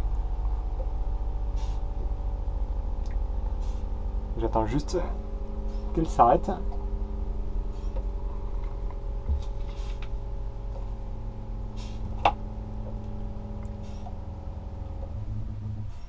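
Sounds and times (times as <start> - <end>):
electric water pump humming: 0.0 - 16.0.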